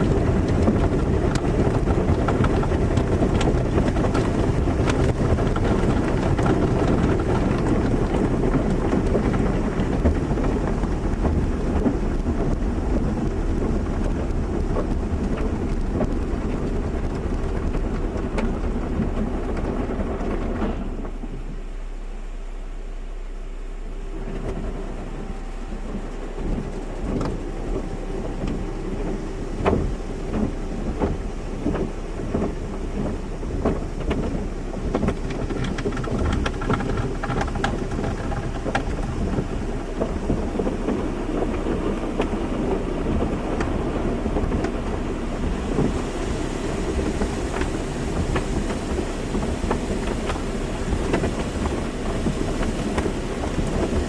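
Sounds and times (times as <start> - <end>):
steady machine hum: 0.0 - 54.0
water spray drumming on car: 0.0 - 54.0.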